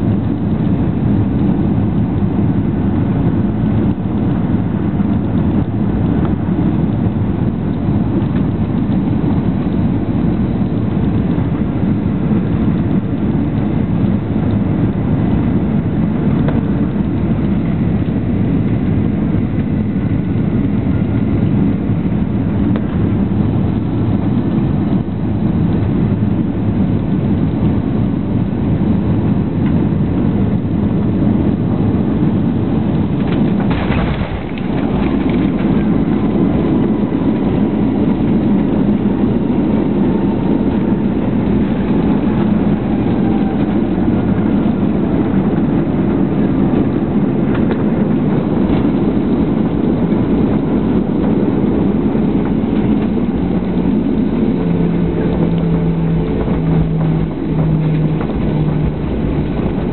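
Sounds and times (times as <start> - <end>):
airplane engines rumbling: 0.0 - 59.9.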